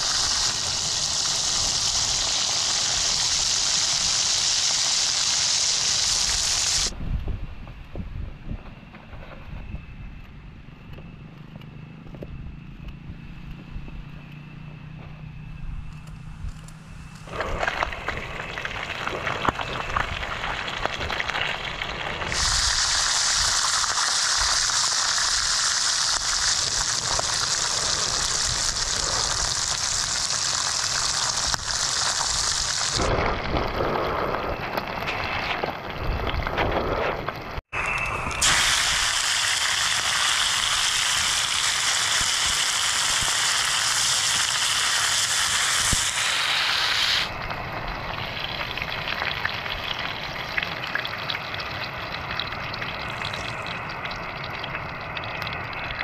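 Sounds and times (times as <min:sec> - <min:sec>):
fish frying in hot oil: 0:00.0 - 0:06.9, 0:17.2 - 0:56.0.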